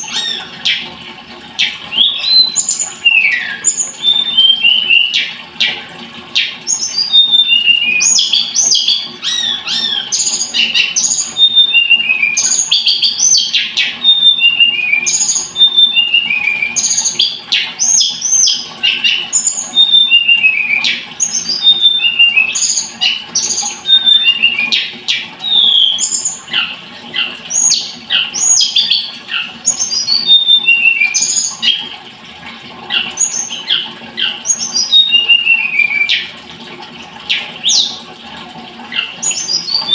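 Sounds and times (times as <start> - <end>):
bird singing chirps and whistles: 0.0 - 0.8, 1.6 - 5.8, 6.4 - 31.8, 32.9 - 36.3, 37.3 - 38.0, 38.9 - 39.9.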